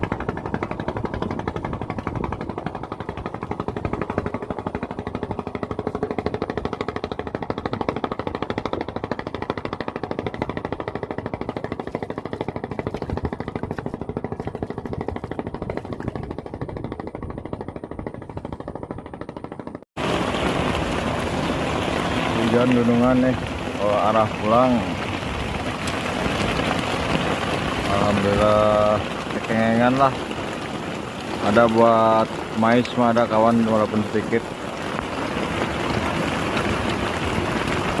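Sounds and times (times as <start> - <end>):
small boat engine running: 0.0 - 38.0.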